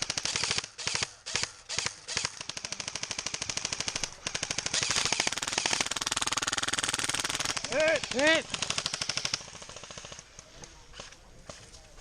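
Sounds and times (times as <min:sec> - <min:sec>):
airsoft guns firing automatic: 0:00.0 - 0:11.6.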